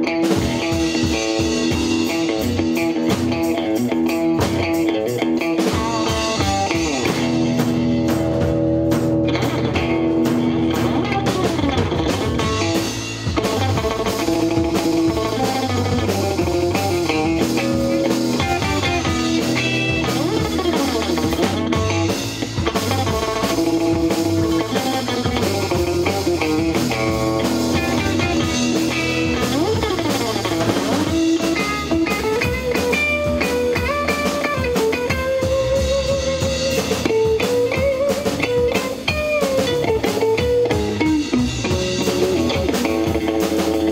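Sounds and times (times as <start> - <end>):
bass guitar: 0.0 - 43.9
drum kit: 0.0 - 43.9
electric guitar bending notes: 0.0 - 43.9.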